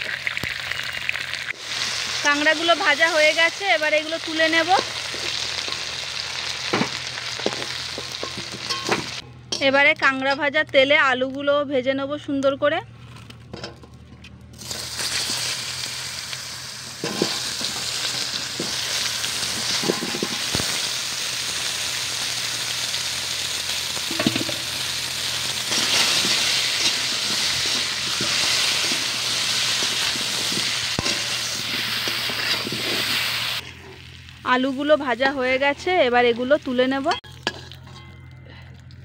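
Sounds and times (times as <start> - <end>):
potatoes sizzling in hot oil: 0.0 - 9.2, 14.6 - 37.2.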